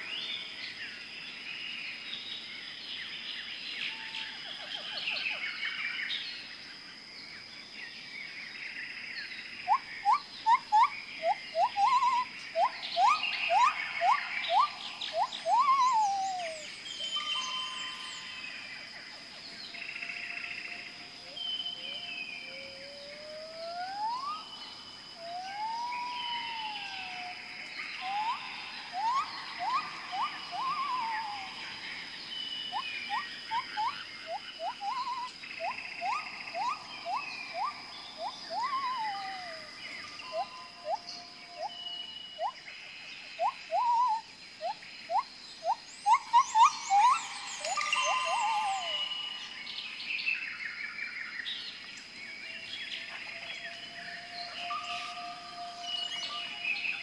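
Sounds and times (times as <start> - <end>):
birds calling: 9.5 - 57.0.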